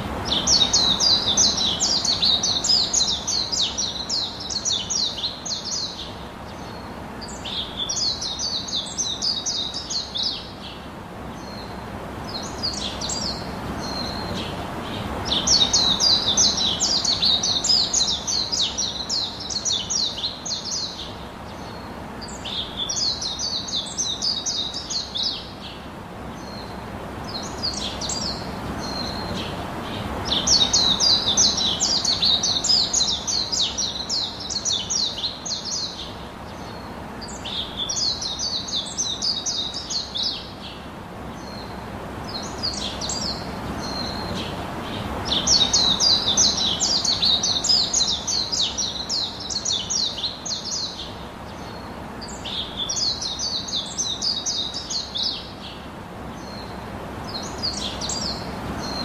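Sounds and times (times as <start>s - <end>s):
steady low hiss: 0.0s - 59.0s
small birds chattering: 0.3s - 59.0s.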